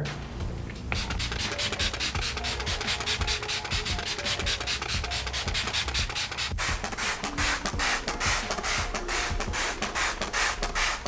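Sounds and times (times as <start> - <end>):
spray bottle spritzes: 0.8 - 11.0.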